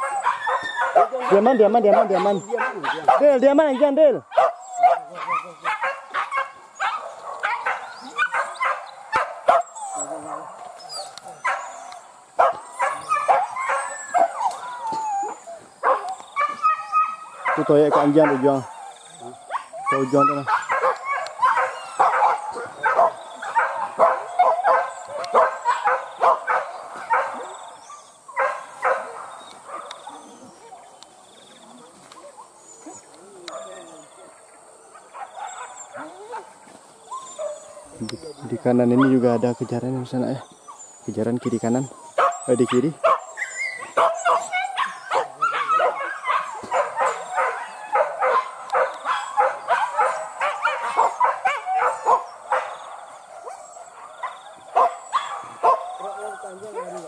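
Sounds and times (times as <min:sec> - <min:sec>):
dog barking: 0:00.0 - 0:10.7, 0:11.3 - 0:14.6, 0:15.8 - 0:18.8, 0:19.5 - 0:30.7, 0:34.9 - 0:36.6, 0:38.8 - 0:39.5, 0:41.6 - 0:57.0.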